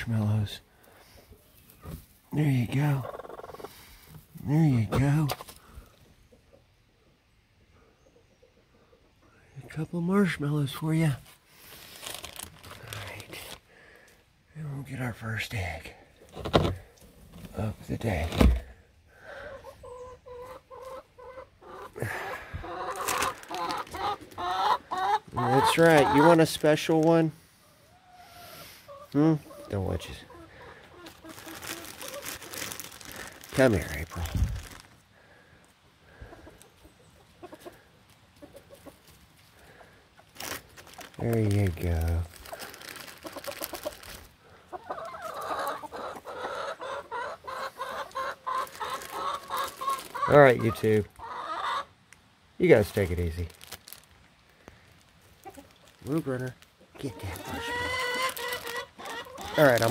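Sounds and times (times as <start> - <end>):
hens clucking: 0.0 - 11.2, 12.4 - 53.5, 54.7 - 59.9.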